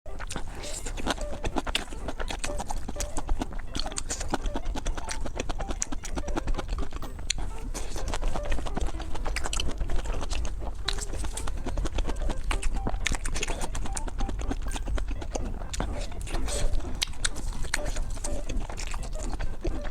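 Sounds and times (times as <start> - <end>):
chewing and mouth smacking: 0.1 - 19.9.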